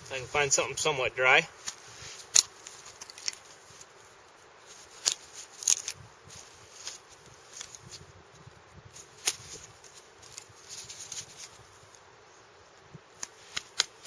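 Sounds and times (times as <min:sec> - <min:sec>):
soft handling rustle: 0:00.0 - 0:14.0.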